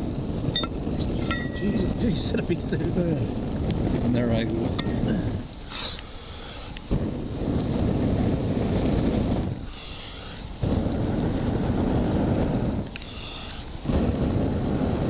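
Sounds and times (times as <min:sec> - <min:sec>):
wind blasting microphone: 0:00.0 - 0:05.7, 0:06.6 - 0:15.0.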